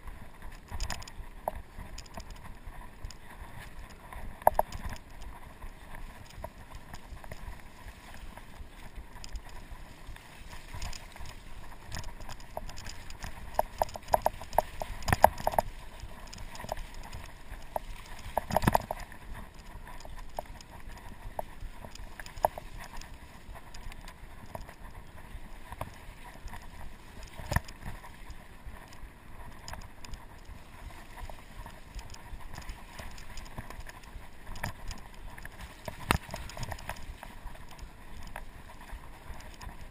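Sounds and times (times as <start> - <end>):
bike rattling and clicking: 0.0 - 39.9
bike tyres rolling: 0.0 - 39.9.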